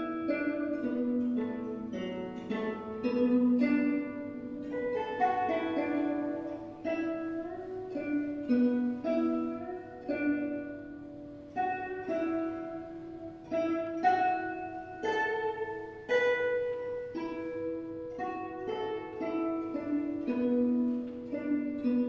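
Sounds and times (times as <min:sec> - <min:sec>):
zither plucked melody: 0:00.0 - 0:22.0.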